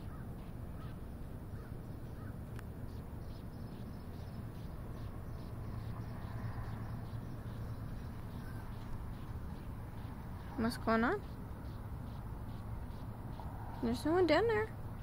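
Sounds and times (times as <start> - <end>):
short bird calls: 0.0 - 13.9
steady low hum: 0.0 - 15.0.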